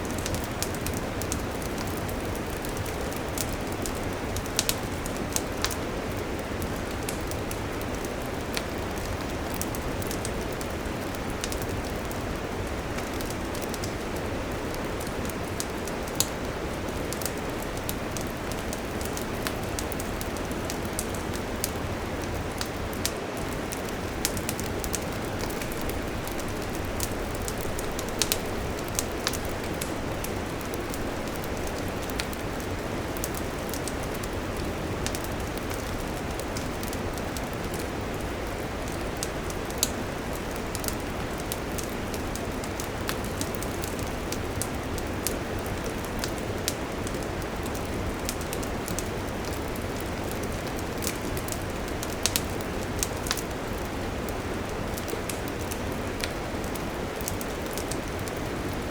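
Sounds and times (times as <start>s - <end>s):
campfire hissing: 0.0s - 58.9s
fire crackles and pops: 0.0s - 58.9s.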